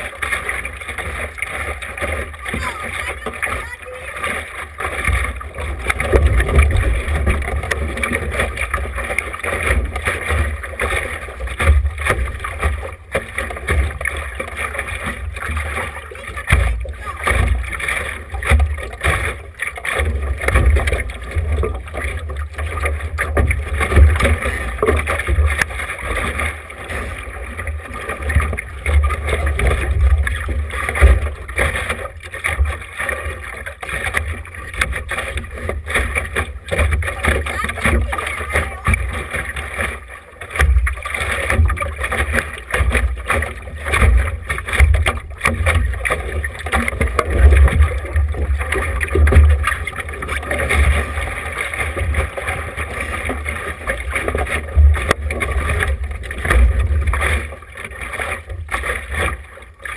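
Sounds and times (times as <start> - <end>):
boat noise: 0.0 - 59.9
water rushing: 0.0 - 59.9.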